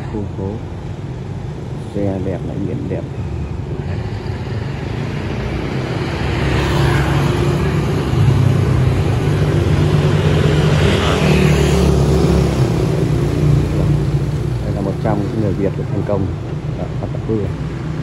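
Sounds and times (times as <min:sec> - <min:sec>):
motorbike passing: 0:00.0 - 0:18.0
street traffic: 0:00.0 - 0:18.0.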